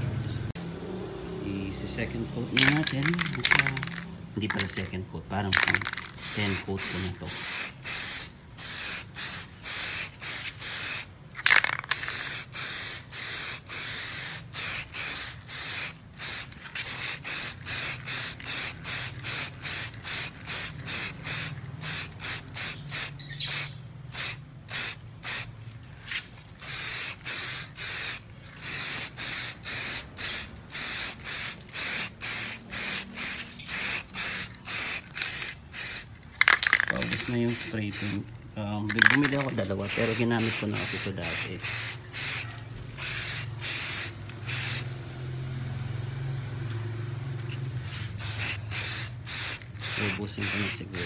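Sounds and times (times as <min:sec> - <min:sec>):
aerosol can spraying in bursts: 0:02.6 - 0:04.8, 0:05.6 - 0:25.5, 0:26.1 - 0:38.2, 0:38.9 - 0:44.9, 0:47.5 - 0:51.0.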